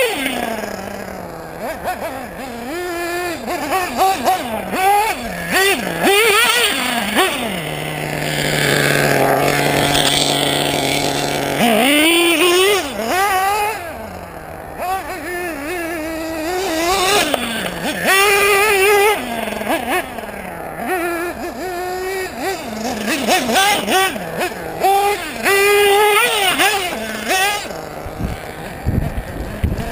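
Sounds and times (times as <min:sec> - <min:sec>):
nitro engine revving: 0:00.0 - 0:29.9.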